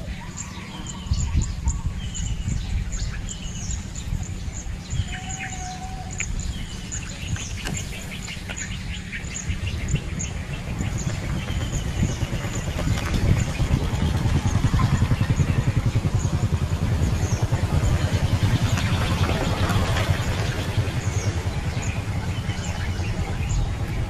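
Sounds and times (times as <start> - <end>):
birds twittering: 0.0 - 24.0.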